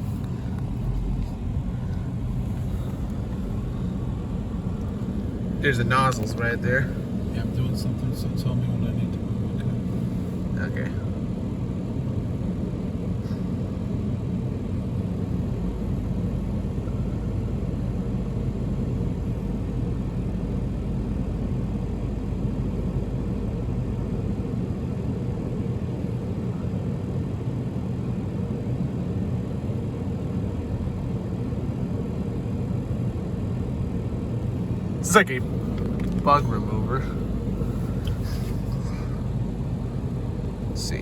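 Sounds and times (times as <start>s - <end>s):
car engine idling: 0.0s - 27.2s, 27.8s - 41.0s.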